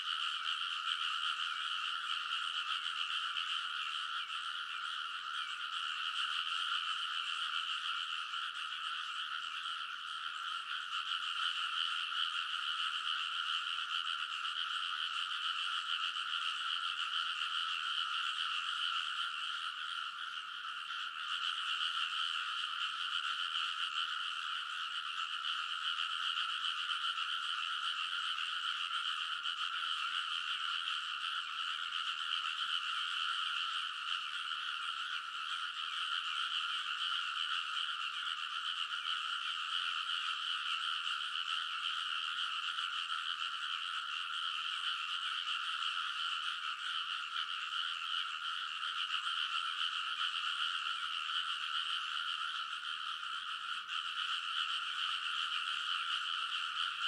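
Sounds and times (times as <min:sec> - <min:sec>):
chorus of frogs croaking: 0:00.0 - 0:57.0.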